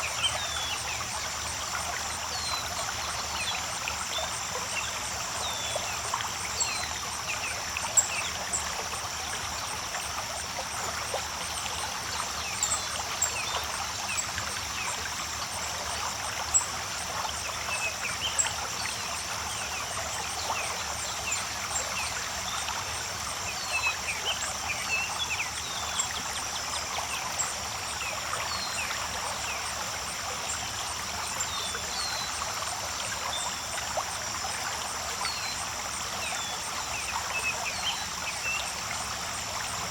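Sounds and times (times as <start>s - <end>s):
creek water running: 0.0s - 39.9s.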